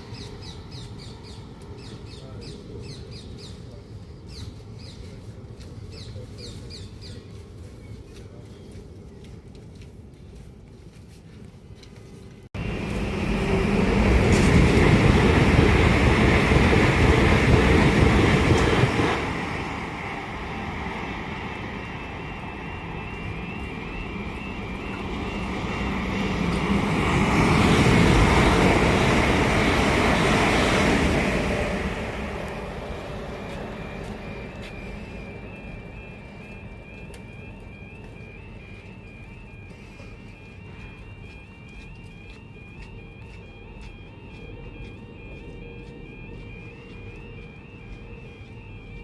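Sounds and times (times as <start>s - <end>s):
train passing: 0.0s - 49.0s.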